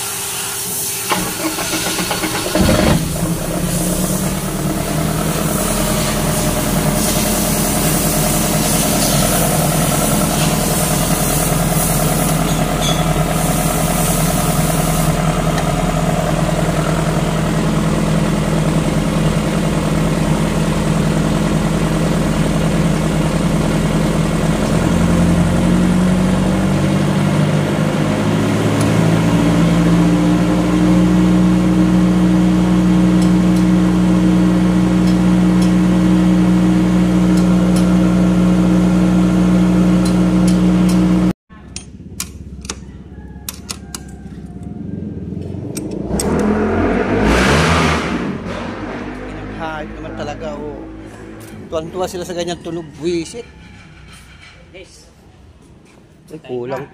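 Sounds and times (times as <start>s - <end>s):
generator engine running: 0.0s - 54.1s.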